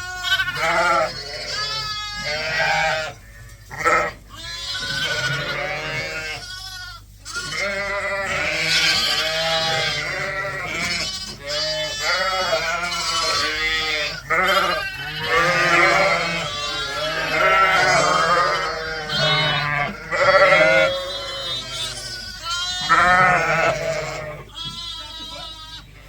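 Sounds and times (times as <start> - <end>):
sheep bleating: 0.0 - 26.0.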